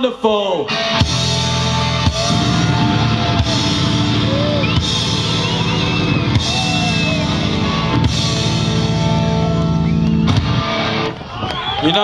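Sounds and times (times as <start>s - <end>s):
rock band playing: 0.6s - 11.4s
bending guitar line: 0.7s - 12.0s.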